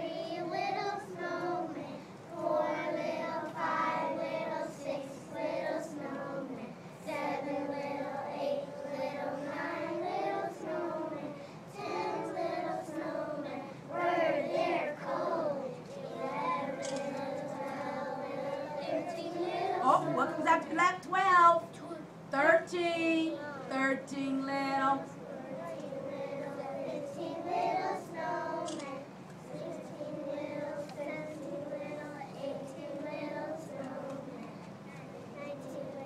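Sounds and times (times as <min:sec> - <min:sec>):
children singing together: 0:00.0 - 0:20.4, 0:25.0 - 0:36.0.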